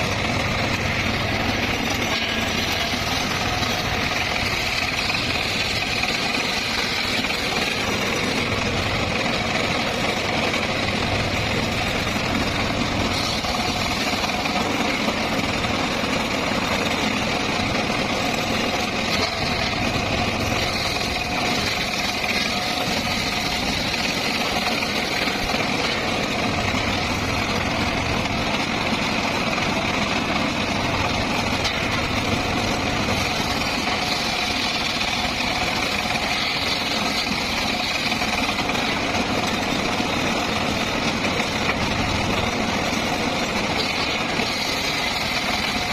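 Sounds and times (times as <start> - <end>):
circular saw running: 0.0 - 45.9.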